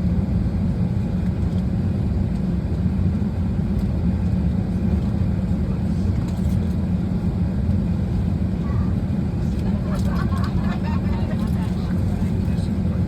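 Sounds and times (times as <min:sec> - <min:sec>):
aircraft cabin air system drone: 0:00.0 - 0:13.0.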